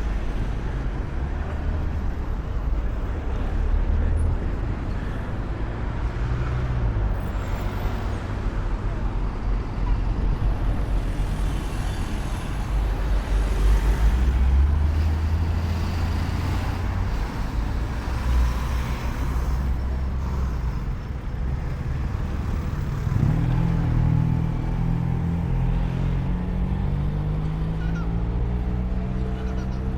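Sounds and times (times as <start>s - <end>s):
vehicle engines humming: 0.0s - 29.9s.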